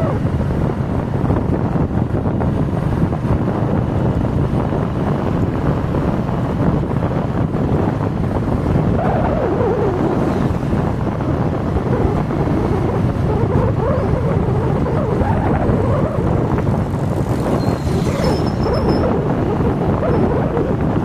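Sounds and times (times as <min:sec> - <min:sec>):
highway road and engine noise: 0:00.0 - 0:21.0
wind on microphone: 0:00.0 - 0:21.0.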